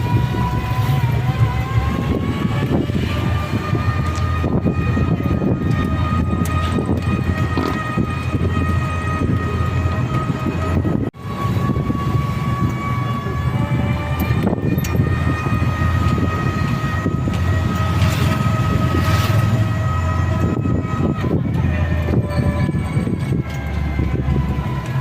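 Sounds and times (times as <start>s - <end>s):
high-pitched whine: 0.0s - 25.0s
vehicle rumble: 0.0s - 25.0s.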